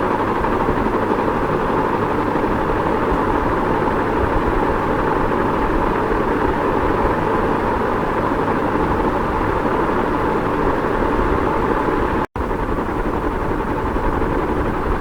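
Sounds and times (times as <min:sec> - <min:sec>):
ceiling fan whirring: 0:00.0 - 0:15.0.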